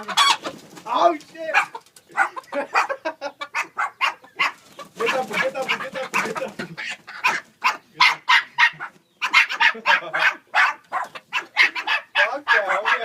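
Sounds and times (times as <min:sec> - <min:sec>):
dog barking: 0:01.5 - 0:06.4, 0:07.2 - 0:13.0.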